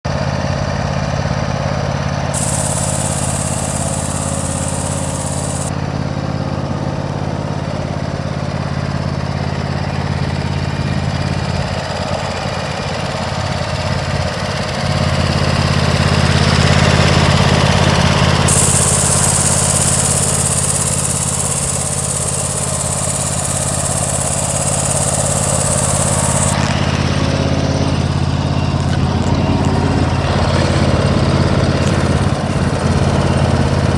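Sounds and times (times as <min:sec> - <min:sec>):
mower engine running: 0:02.0 - 0:33.9.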